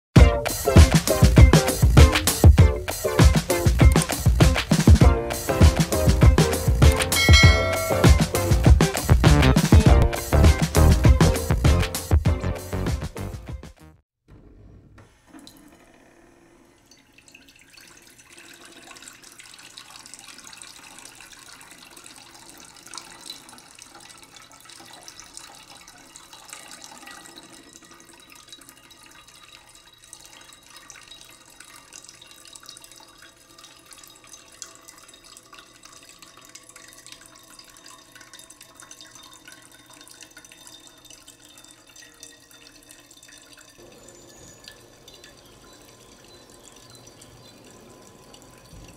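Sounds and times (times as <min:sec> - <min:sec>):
water trickling: 0:00.5 - 0:11.7, 0:16.7 - 0:48.9
water dripping and splashing: 0:00.5 - 0:12.2, 0:16.9 - 0:48.9.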